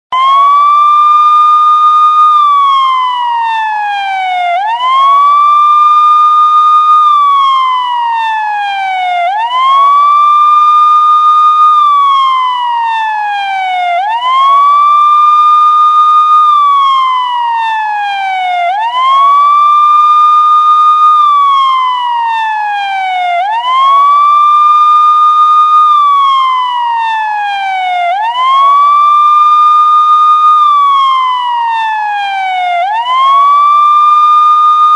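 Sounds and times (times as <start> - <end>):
police siren wailing: 0.1 - 34.9.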